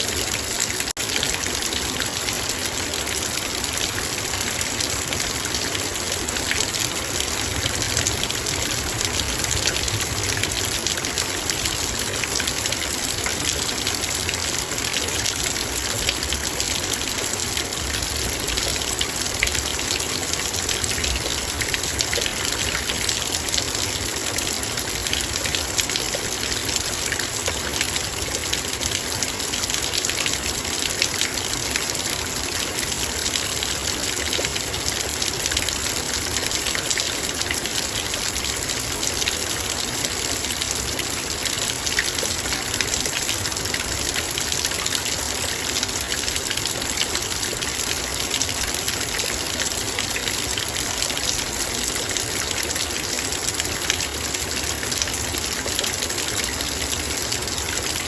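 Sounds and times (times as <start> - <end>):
rain pattering on metal bowl: 0.0 - 58.0.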